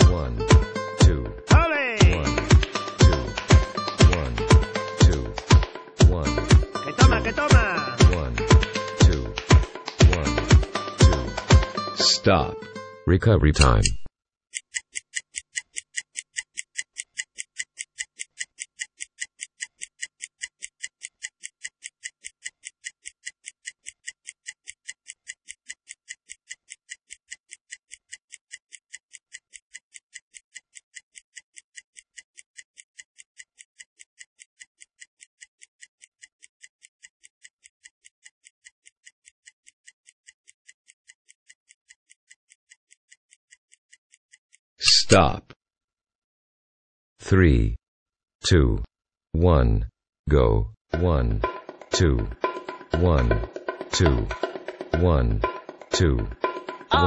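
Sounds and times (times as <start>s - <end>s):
stopwatch ticking: 0.0s - 11.8s, 14.5s - 44.7s, 51.0s - 57.0s.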